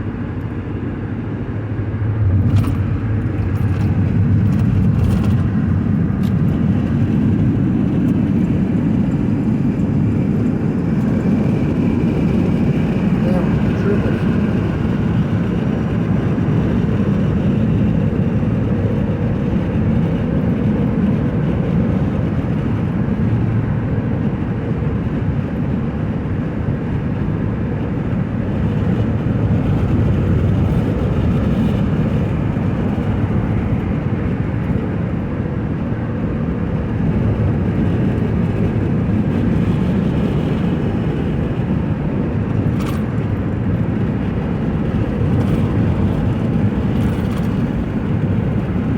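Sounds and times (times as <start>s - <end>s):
car road and engine noise: 0.0s - 48.9s.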